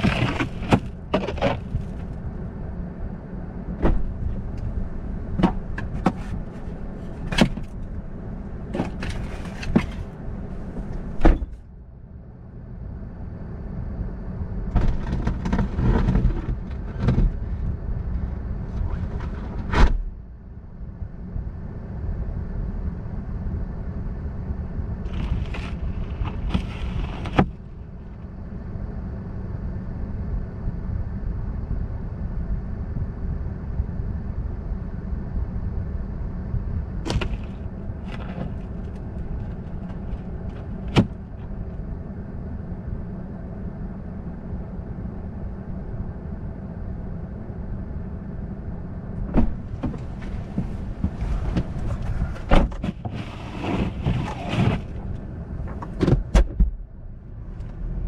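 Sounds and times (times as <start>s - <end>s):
car driving on icy road: 0.0s - 22.7s, 23.9s - 29.4s, 36.4s - 46.7s, 49.3s - 58.0s.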